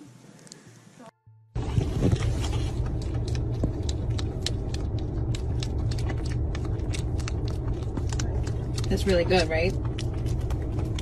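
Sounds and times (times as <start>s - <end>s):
road rumble inside car: 1.6s - 11.0s.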